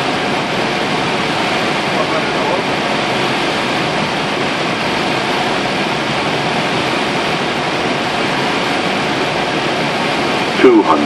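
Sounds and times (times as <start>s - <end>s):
aircraft engine noise: 0.0s - 11.0s
airflow over aircraft: 0.0s - 11.0s.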